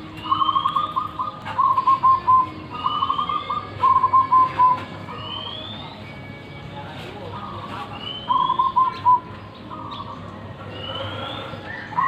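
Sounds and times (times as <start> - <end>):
dove cooing: 0.0 - 5.8, 7.5 - 12.0.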